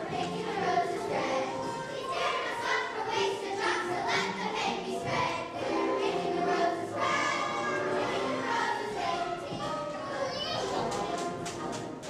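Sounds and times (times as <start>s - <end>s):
children singing together: 0.0s - 12.0s
musical accompaniment: 0.0s - 12.0s.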